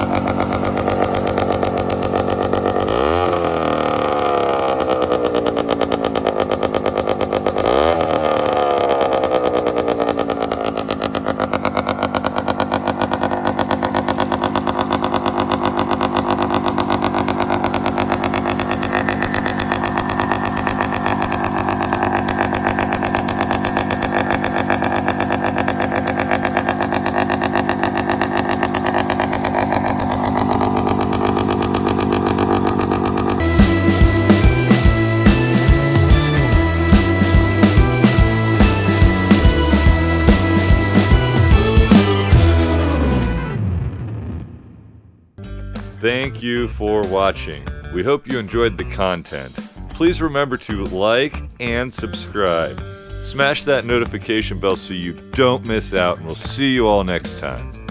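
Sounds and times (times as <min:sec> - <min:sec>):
motorbike engine revving and idling: 0:00.0 - 0:43.7, 0:44.8 - 0:57.9.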